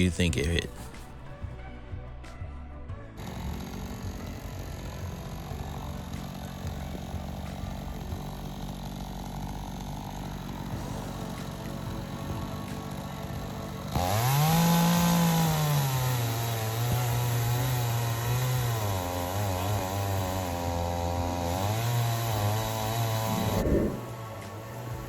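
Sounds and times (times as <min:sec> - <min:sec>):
chainsaw cutting wood: 0:03.2 - 0:25.0.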